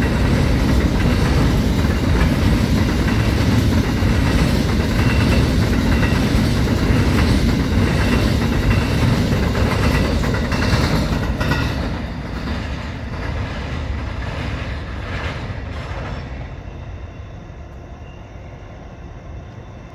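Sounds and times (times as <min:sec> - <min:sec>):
freight train wheels clacking: 0:00.0 - 0:16.6
train rumble: 0:00.0 - 0:19.9.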